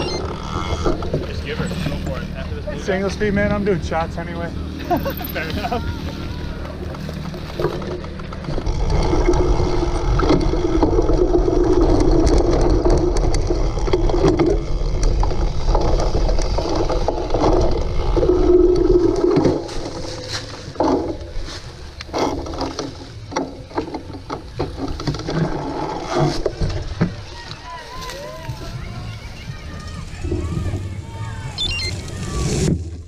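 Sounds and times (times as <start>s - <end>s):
bicycle frame rattling: 0.0s - 32.2s
bicycle tyres rumbling: 0.0s - 33.0s.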